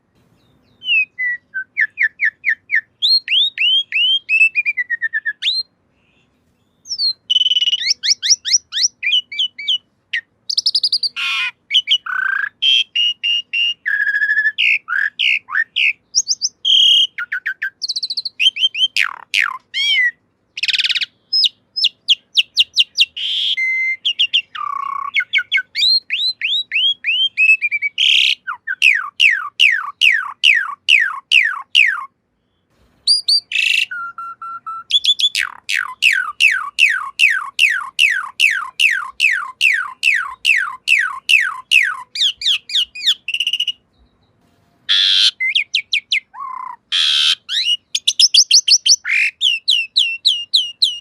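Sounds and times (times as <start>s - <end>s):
rough noisy bird calls: 0.0s - 51.0s
starling singing whistled notes: 0.3s - 51.0s.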